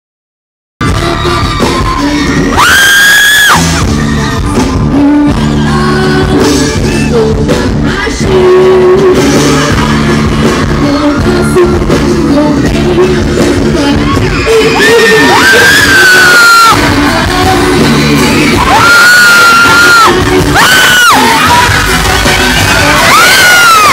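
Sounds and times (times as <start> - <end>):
woman singing into microphone: 0.8 - 2.6, 4.8 - 23.9
rock-pop band playing: 0.8 - 23.9.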